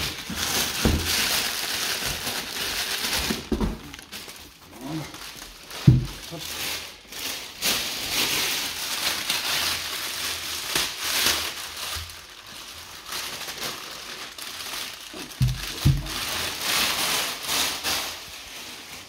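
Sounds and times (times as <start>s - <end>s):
plastic bag rustling: 0.0s - 19.0s.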